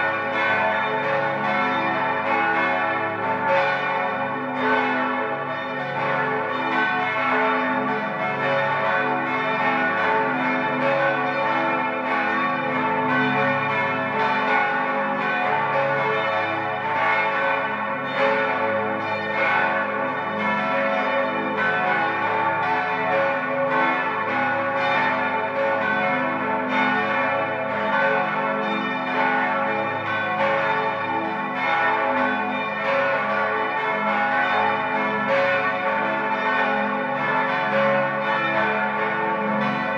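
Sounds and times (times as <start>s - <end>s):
church bells ringing in peal: 0.0s - 39.9s.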